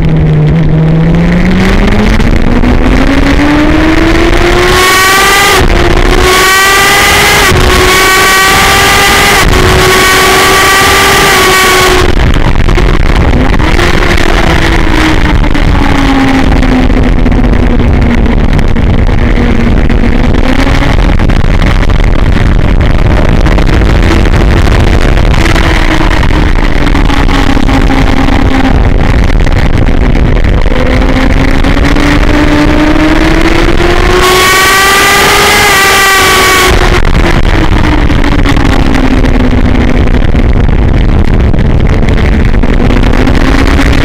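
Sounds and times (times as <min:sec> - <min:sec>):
motorcycle engine revving: 0:00.0 - 0:44.0
wind noise on microphone: 0:00.0 - 0:44.0.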